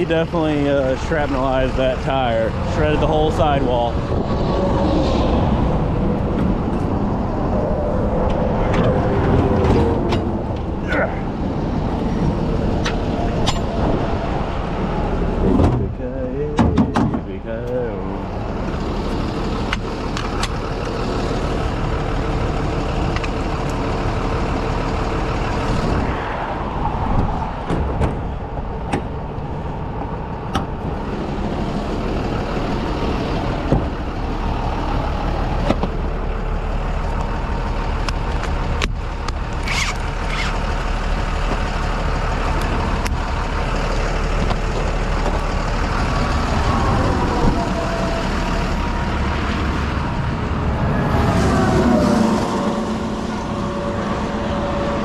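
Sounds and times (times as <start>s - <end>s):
highway traffic rushing: 0.0s - 55.0s.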